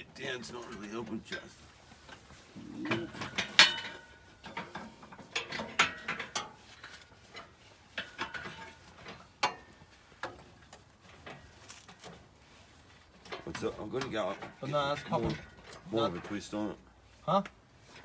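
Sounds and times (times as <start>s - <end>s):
metal clanks and clicks: 0.5s - 12.3s, 13.2s - 16.7s.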